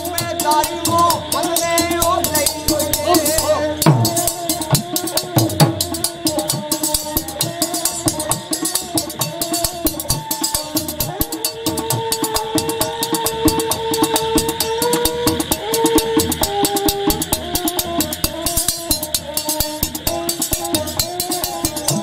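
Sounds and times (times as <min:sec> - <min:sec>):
drum beating: 0:00.0 - 0:22.0.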